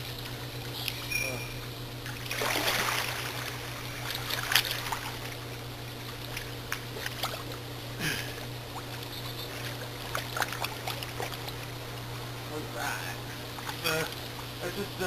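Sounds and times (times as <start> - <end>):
low hum: 0.0 - 15.0
pool water splashing and lapping: 0.0 - 15.0.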